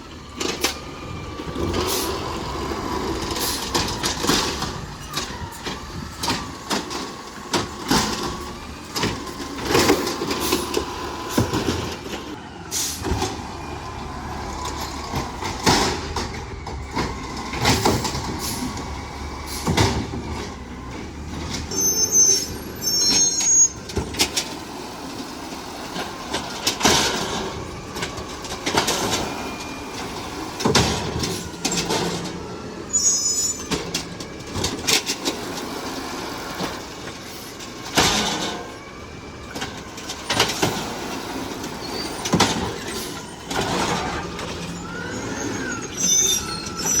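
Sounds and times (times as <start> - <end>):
garbage truck engine running: 0.0 - 47.0.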